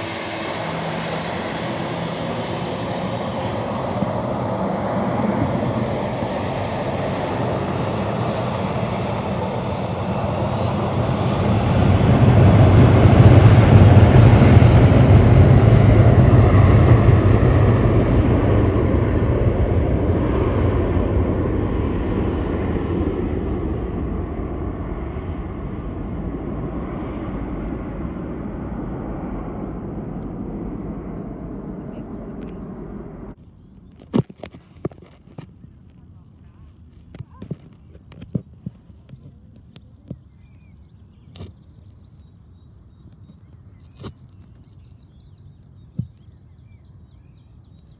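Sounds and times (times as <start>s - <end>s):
jet engines passing: 0.0s - 42.4s.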